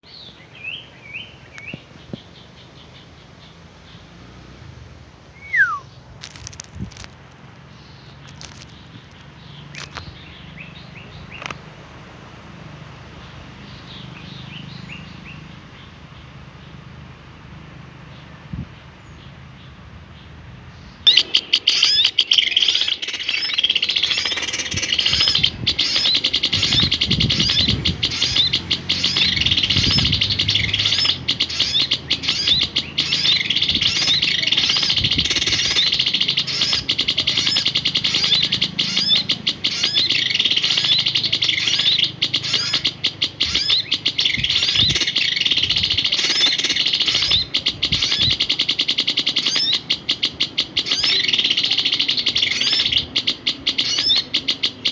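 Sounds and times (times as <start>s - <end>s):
songbird chirping and trilling: 0.0s - 4.7s, 5.3s - 11.8s, 12.4s - 54.9s.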